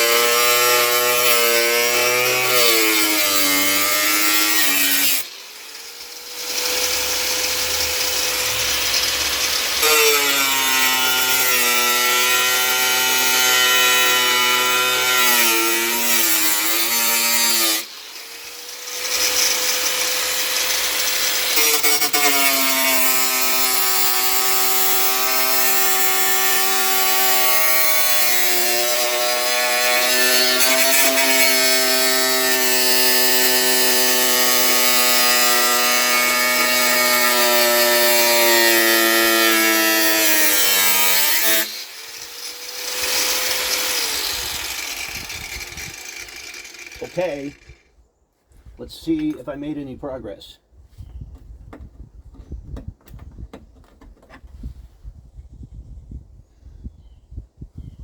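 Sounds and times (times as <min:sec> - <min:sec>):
power saw cutting sheet metal: 0:00.0 - 0:47.8.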